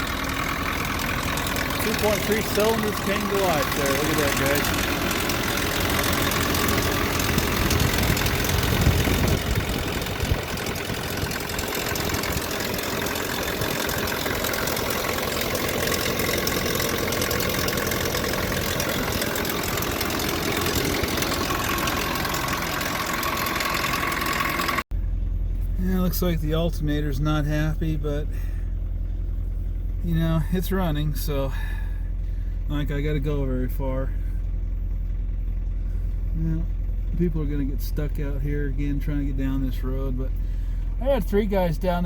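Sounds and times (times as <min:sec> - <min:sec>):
pickup engine idling roughly: 0:00.0 - 0:42.0.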